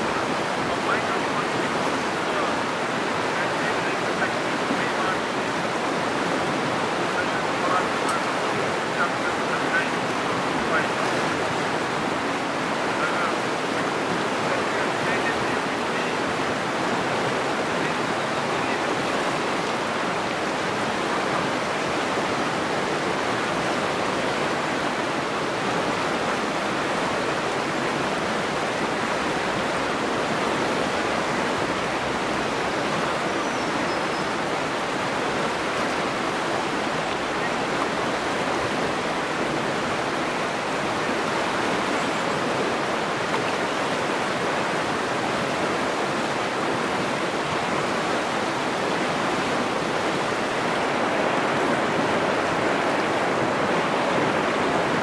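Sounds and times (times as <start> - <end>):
river rapids rushing over rocks: 0.0 - 55.0.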